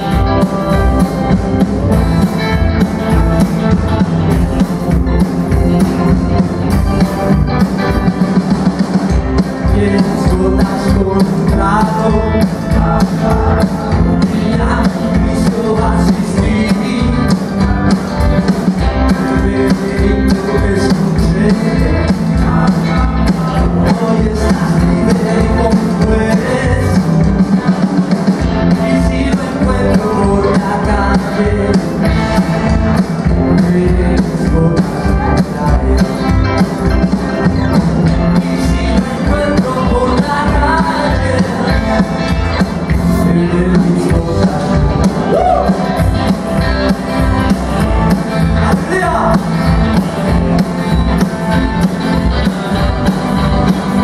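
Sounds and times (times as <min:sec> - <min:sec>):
drum kit beat: 0:00.0 - 0:54.0
electric guitars: 0:00.0 - 0:54.0
live rock band playing: 0:00.0 - 0:54.0
upright double bass: 0:00.0 - 0:54.0.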